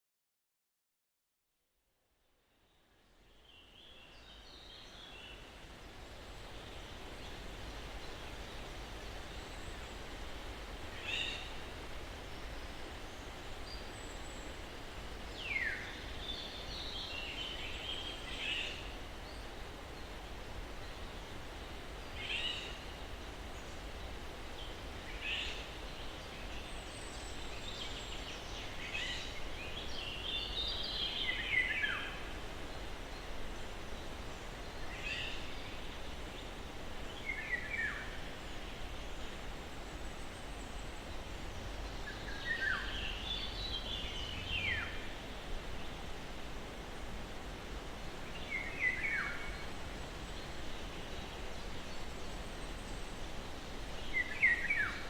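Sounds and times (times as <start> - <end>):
breeze through pine trees: 1.2 - 55.0
songbird chirps and calls: 3.1 - 46.8, 48.0 - 55.0.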